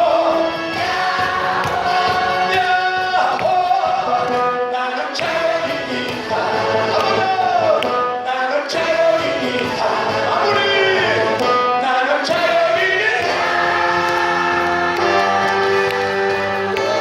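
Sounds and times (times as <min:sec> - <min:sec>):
group of people singing: 0:00.0 - 0:17.0
instrumental accompaniment: 0:00.0 - 0:17.0.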